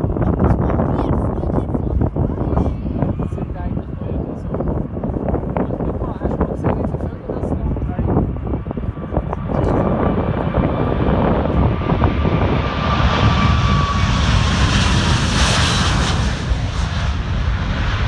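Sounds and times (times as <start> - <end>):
jet airliner passing: 0.0 - 18.0
jet engine whine: 0.0 - 18.0.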